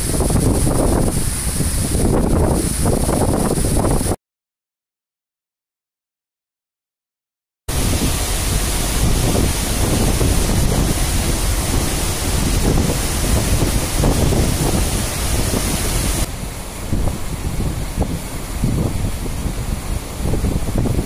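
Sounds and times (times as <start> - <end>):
wind buffeting microphone: 0.0 - 4.2, 7.7 - 21.0.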